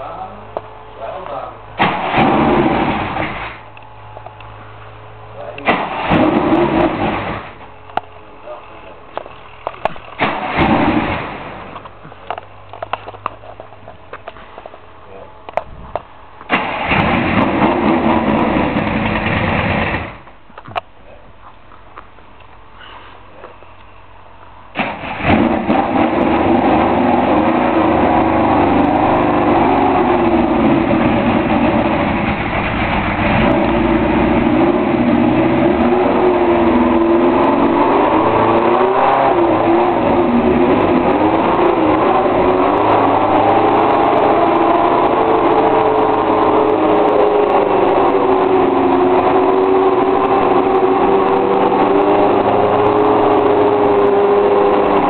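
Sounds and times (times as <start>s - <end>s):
racing car engine running: 0.0s - 15.7s, 16.4s - 20.4s, 24.6s - 55.0s.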